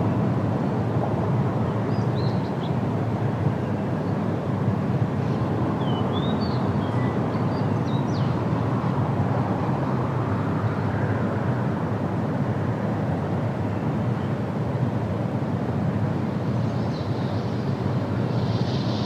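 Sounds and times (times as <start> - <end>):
wind through tree leaves: 0.0 - 19.0.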